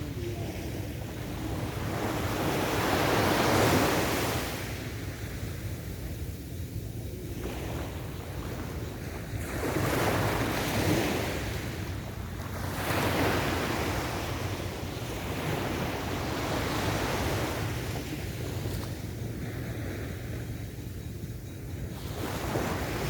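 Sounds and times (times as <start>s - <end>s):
ocean waves washing onto beach: 0.0s - 23.0s
wind rumble on microphone: 0.0s - 23.0s.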